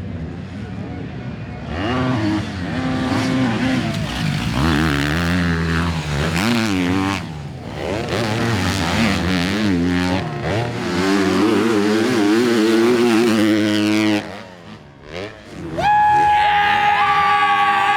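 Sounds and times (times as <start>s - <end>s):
motocross bike engines revving: 0.0s - 17.9s.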